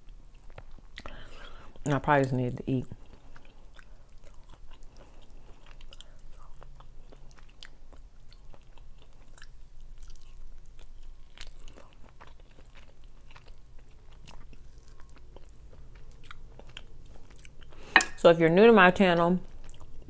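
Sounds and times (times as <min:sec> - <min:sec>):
chewing and biting: 0:00.0 - 0:01.9, 0:02.8 - 0:17.9, 0:19.4 - 0:20.0.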